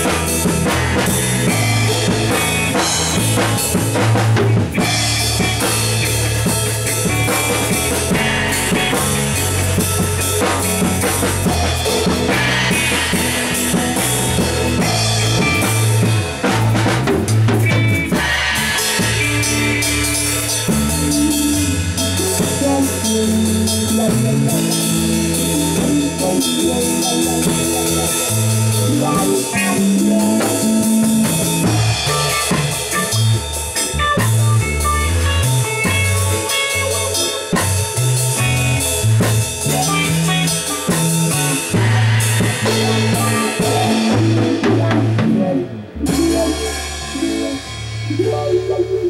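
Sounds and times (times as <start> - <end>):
bass guitar: 0.0 - 49.0
drum kit: 0.0 - 49.0
electric guitar: 0.0 - 49.0.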